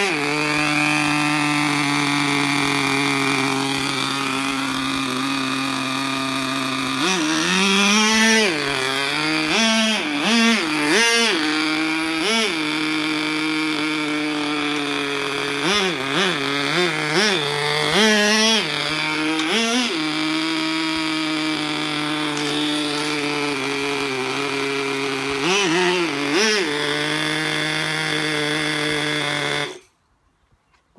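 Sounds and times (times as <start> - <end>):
small nitro engine buzzing and revving: 0.0 - 29.9.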